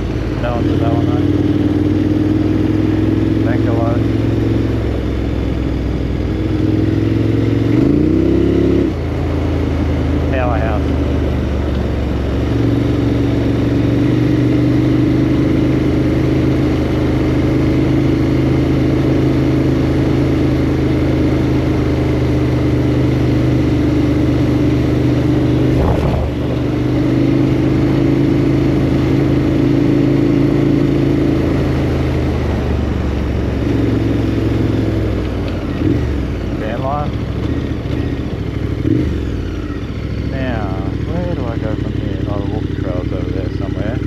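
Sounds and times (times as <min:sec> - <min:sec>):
motorcycle engine cruising: 0:00.0 - 0:44.0.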